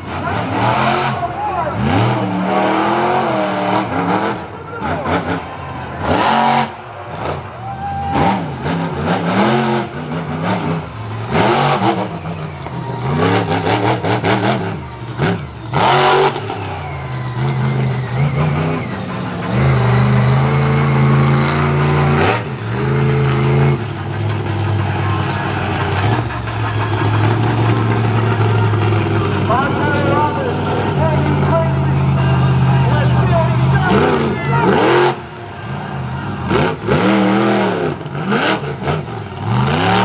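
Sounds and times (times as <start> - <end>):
vehicle engines revving: 0.0 - 40.0.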